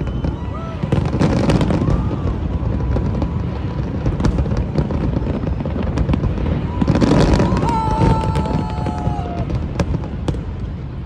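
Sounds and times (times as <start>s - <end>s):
fireworks rumble and cracks: 0.0s - 11.0s.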